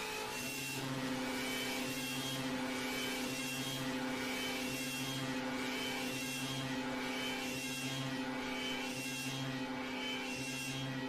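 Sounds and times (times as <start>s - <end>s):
buzzing alarm drone: 0.0s - 11.0s.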